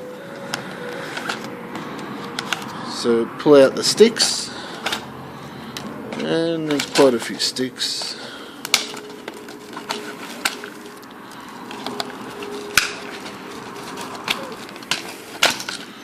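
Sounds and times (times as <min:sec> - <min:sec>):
toy packaging rustling: 0:00.2 - 0:02.9, 0:03.8 - 0:05.2, 0:06.1 - 0:16.0.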